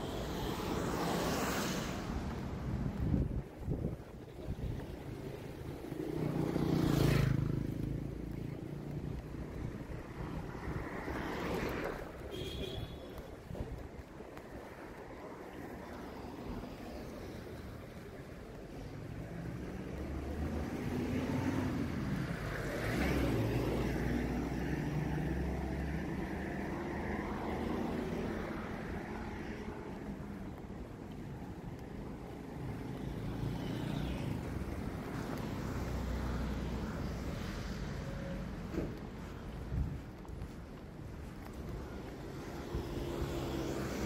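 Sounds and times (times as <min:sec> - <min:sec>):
vehicles driving past: 0:00.0 - 0:44.0.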